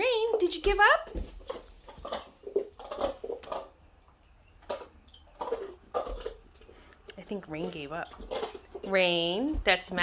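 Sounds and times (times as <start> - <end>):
dog gnawing plastic container: 0.2 - 10.0.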